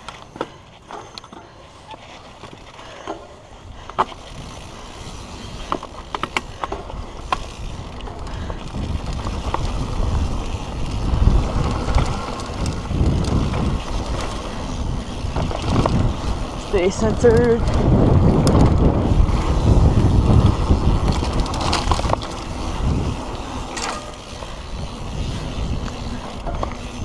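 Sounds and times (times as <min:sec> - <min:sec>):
bike clicks and rattles: 0:00.0 - 0:27.0
tyres rolling over dirt and stones: 0:00.0 - 0:27.0
wind rumble on microphone: 0:03.6 - 0:27.0.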